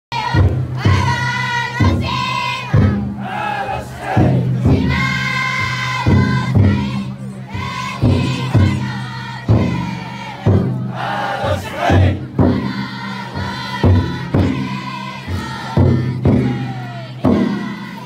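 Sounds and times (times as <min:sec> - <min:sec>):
big taiko drum beats: 0:00.1 - 0:18.0
crowd chanting in unison: 0:00.1 - 0:18.0.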